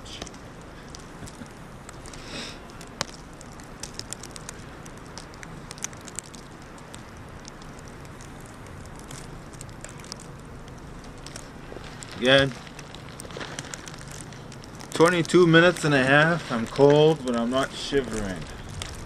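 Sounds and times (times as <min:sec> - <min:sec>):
plastic bag crackling: 0:00.0 - 0:19.0
wind hiss: 0:00.0 - 0:19.0.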